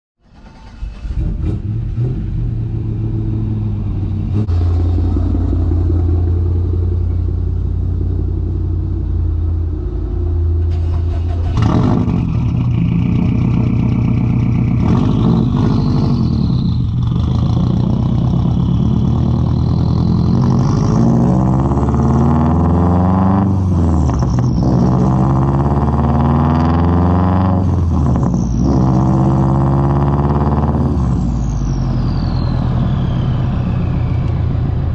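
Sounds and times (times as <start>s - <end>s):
car engine revving: 0.3s - 34.9s.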